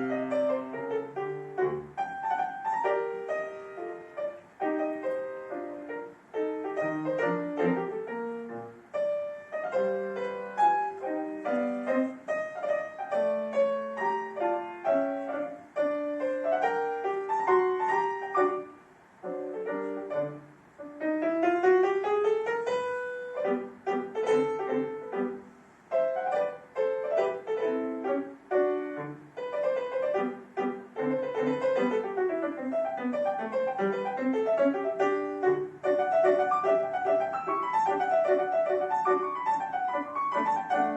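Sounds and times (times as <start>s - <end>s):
solo piano playing: 0.0s - 40.9s.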